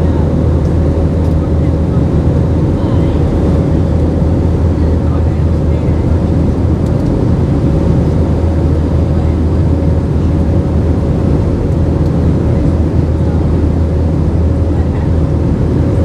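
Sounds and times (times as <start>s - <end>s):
aircraft engines rumbling in cabin: 0.0s - 16.0s.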